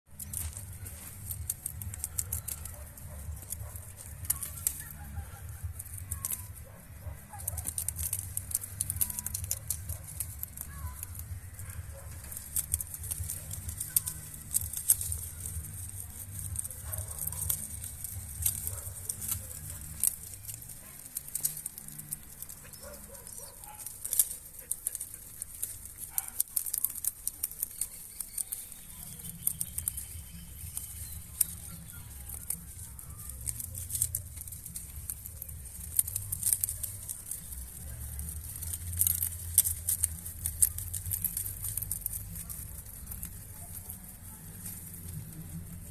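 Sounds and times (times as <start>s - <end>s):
rabbits chewing leaves: 0.1s - 45.9s.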